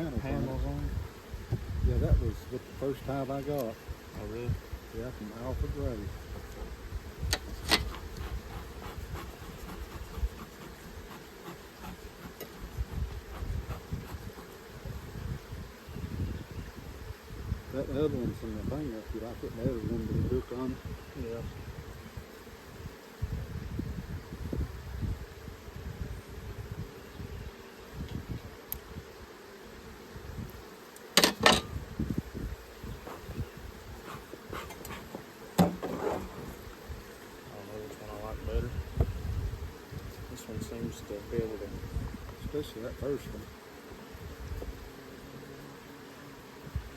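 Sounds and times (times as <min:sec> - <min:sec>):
honeybees buzzing: 0:00.0 - 0:46.9.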